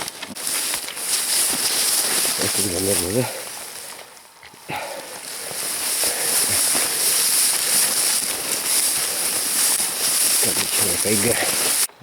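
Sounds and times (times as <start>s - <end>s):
campfire crackling: 0.0s - 11.9s.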